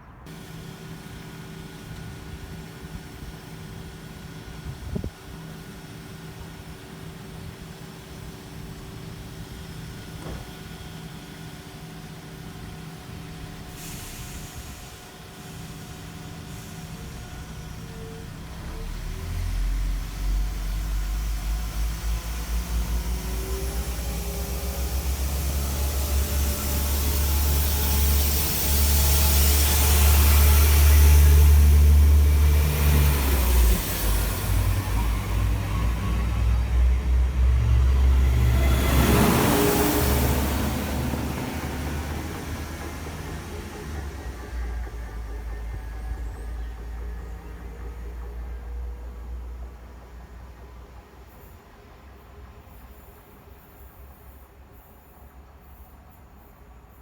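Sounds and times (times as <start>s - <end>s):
train engine rumble: 0.0s - 57.0s
rushing train wheel noise: 0.1s - 57.0s.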